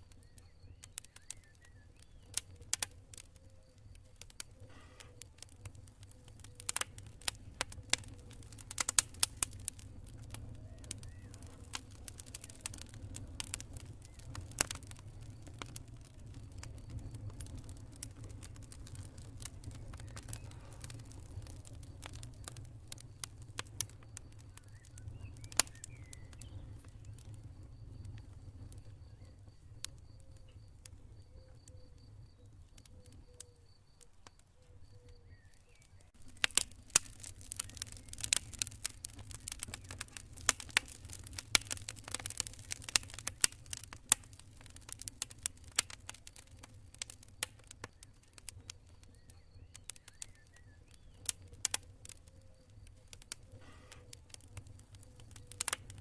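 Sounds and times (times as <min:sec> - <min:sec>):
campfire crackling and popping: 0:00.0 - 0:56.0
low rumble of fire: 0:00.0 - 0:56.0.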